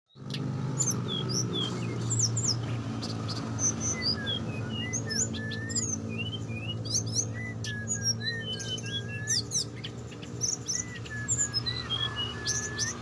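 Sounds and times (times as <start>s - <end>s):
small songbirds chirping: 0.1s - 13.0s.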